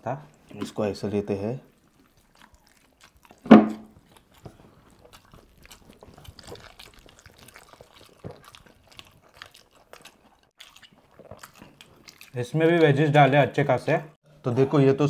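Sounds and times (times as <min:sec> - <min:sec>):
chewing and lip-smacking: 0:00.3 - 0:13.0.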